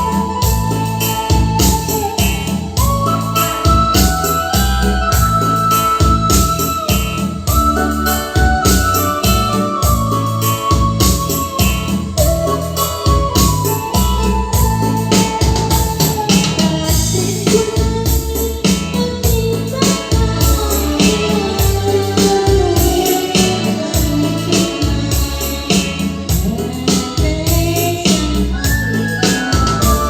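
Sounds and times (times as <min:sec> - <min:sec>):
electronic organ melody: 0:00.0 - 0:30.0
steady electronic beat: 0:00.0 - 0:30.0.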